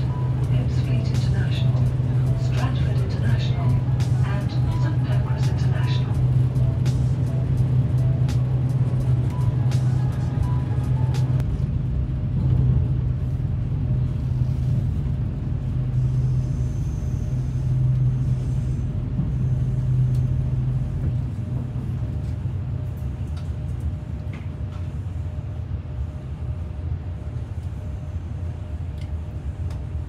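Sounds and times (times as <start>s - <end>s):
train cabin rumble and hum: 0.0s - 30.0s.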